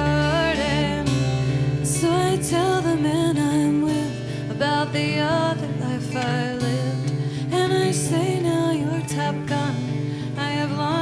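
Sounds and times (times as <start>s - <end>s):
song with strummed acoustic guitar: 0.0s - 11.0s.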